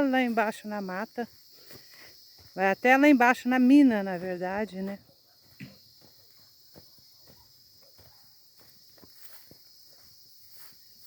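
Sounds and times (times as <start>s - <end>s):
footsteps on ground: 0.0s - 11.0s
insects chirring: 0.0s - 11.0s.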